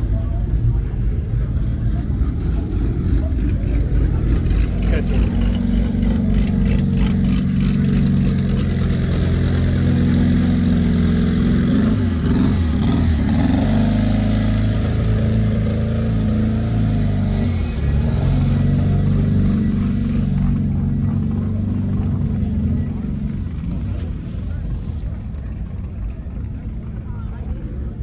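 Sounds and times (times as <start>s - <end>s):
car engine revving: 0.0s - 25.5s.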